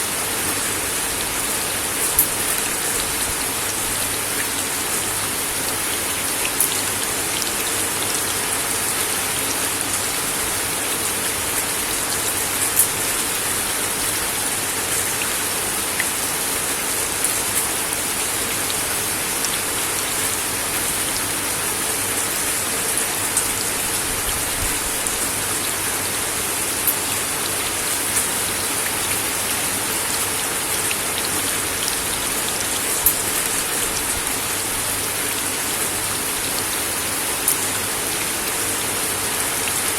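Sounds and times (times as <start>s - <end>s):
rain on a wooden deck: 0.0s - 39.9s.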